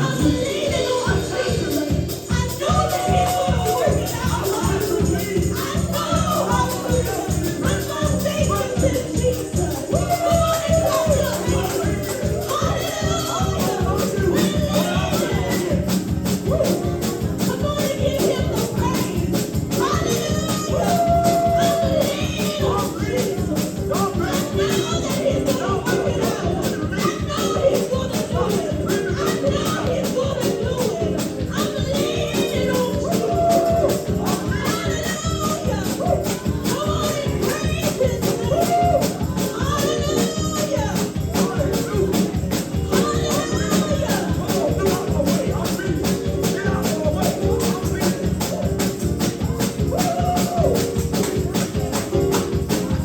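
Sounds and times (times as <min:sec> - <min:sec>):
band playing: 0:00.0 - 0:53.0
fast percussive beat: 0:00.0 - 0:53.0
voices singing: 0:00.0 - 0:53.0.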